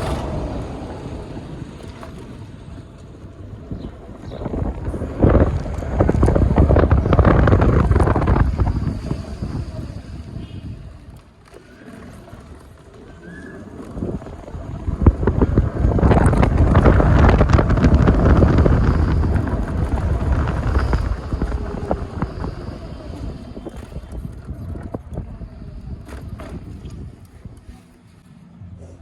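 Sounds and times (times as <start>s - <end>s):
wind buffeting the microphone: 0.0s - 28.2s.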